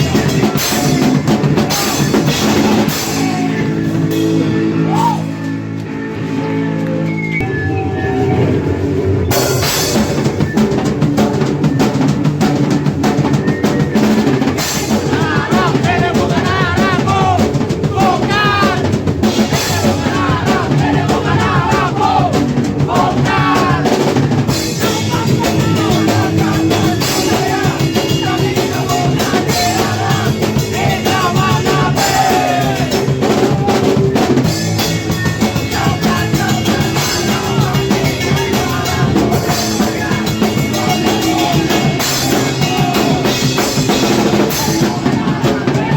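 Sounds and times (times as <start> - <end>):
fast drum kit: 0.0 - 5.4, 8.5 - 45.9
distorted electric guitars: 0.0 - 45.9
punk band playing: 0.0 - 45.9.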